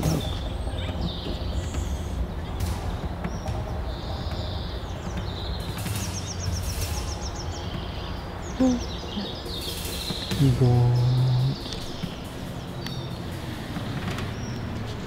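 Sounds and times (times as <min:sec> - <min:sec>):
songbirds calling: 0:00.0 - 0:15.0.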